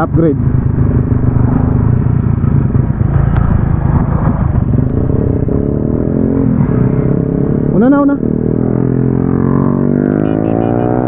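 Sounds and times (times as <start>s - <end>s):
other motorcycles riding alongside: 0.0s - 11.0s.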